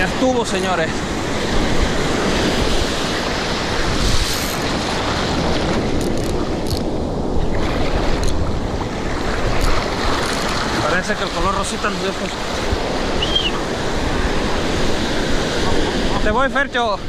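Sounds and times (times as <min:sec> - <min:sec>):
surf washing over shore: 0:00.0 - 0:17.0
wind on microphone: 0:00.0 - 0:17.0.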